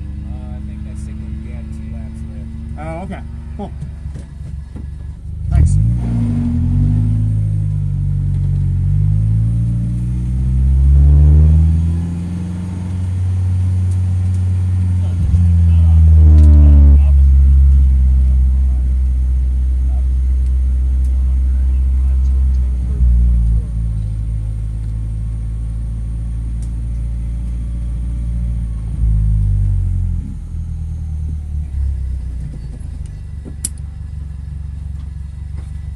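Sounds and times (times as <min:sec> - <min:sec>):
car engine under load: 0:00.0 - 0:35.9.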